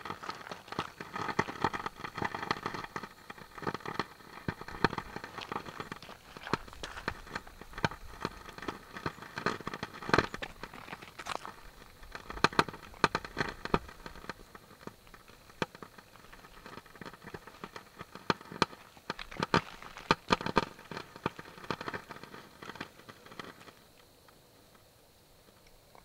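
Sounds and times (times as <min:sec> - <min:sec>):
footsteps crunching on gravel: 0:00.0 - 0:23.8.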